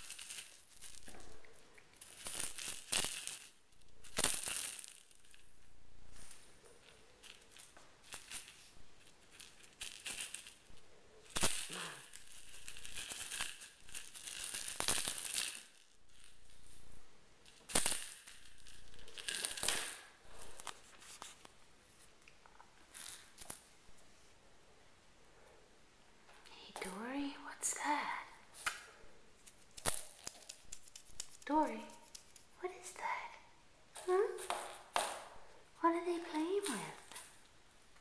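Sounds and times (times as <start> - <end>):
kittens playing with rattling toys: 0.0 - 21.2, 22.8 - 23.8, 28.5 - 33.2, 34.0 - 38.0.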